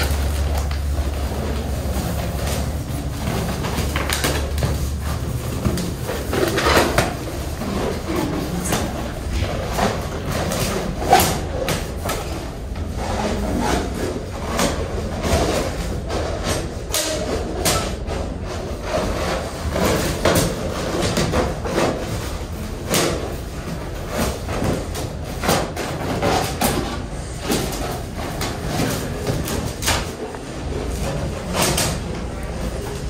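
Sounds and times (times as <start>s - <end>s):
balloons rubbing and squeaking: 0.0s - 33.0s.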